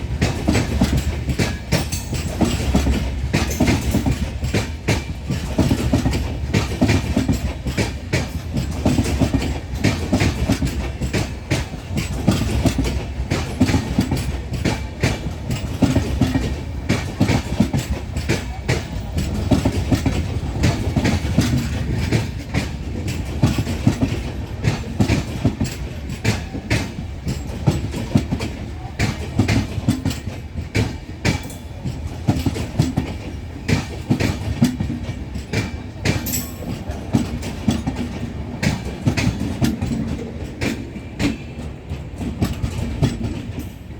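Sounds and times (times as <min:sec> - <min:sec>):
train coaches rumbling: 0:00.0 - 0:43.9
wheels clacking on rail joints: 0:00.0 - 0:43.9.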